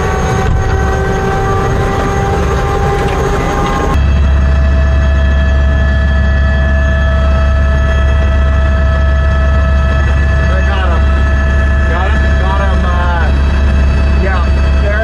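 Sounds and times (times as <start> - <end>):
helicopter cabin drone: 0.0 - 15.0
whining tones: 0.0 - 15.0.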